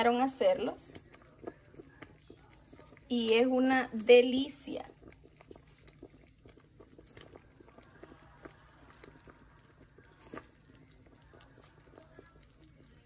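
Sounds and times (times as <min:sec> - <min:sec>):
sauce simmering with pops: 0:00.0 - 0:13.0.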